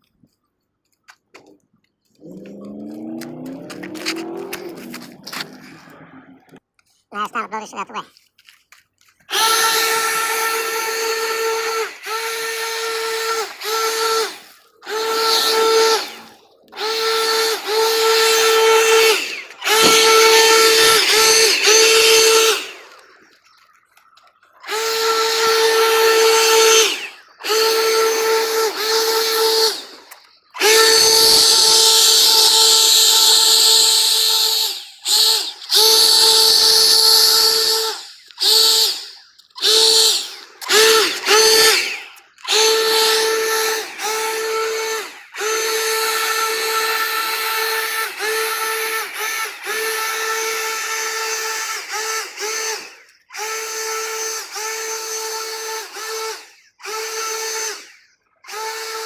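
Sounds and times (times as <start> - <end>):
leaf blower whining: 2.0 - 6.6, 9.2 - 59.0.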